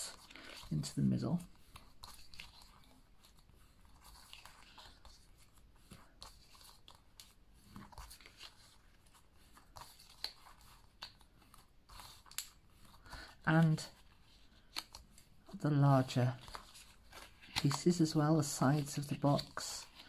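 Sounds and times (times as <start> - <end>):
cardstock crackling as folded: 0.0 - 20.0.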